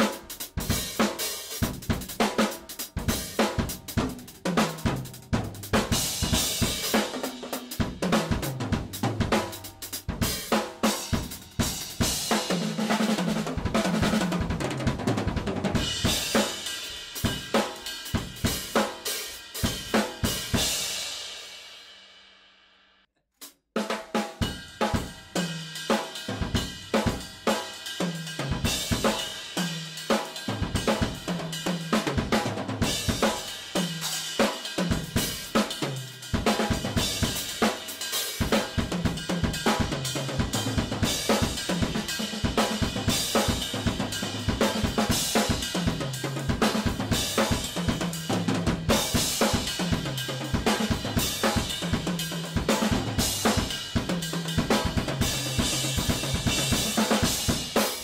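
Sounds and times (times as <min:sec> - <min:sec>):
snare and bass drum strokes: 0:00.0 - 0:21.6, 0:23.4 - 0:58.0
cymbals and hi-hat: 0:00.0 - 0:22.7, 0:24.4 - 0:58.0.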